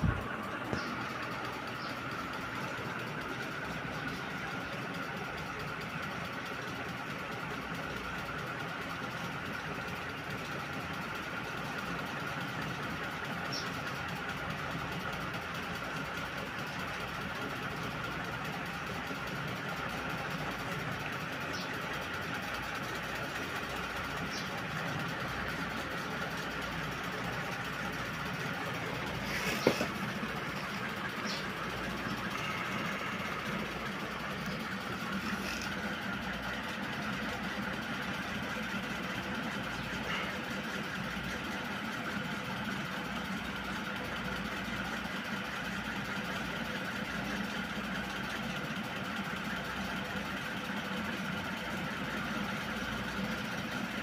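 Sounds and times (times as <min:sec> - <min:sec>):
ceiling fan whirring: 0:00.0 - 0:54.0.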